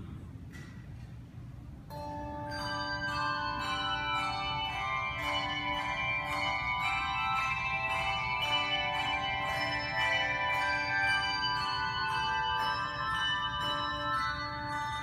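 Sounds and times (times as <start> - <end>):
handbell choir playing chords: 1.9 - 15.0.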